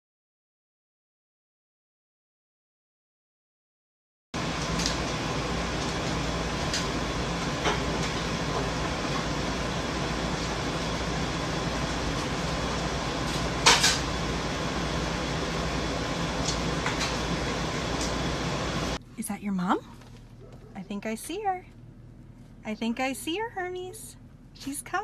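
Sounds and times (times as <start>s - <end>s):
fan-like hum: 4.4s - 25.0s.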